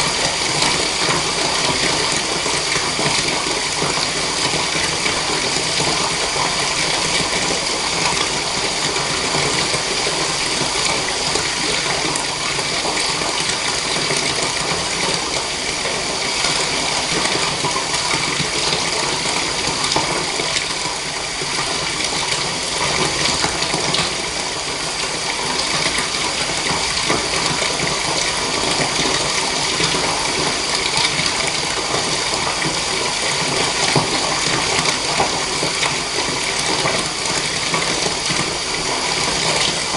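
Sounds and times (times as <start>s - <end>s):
tap water gushing into bath: 0.0s - 39.9s.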